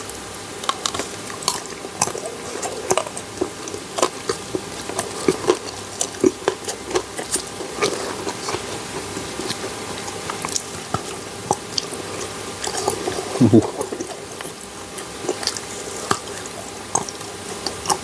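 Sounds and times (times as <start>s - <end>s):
mouth chewing chocolate: 0.0s - 18.0s.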